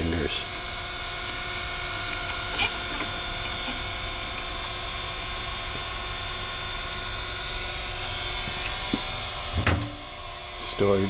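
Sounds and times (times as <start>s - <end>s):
grinder motor hum and whine: 0.0s - 11.0s.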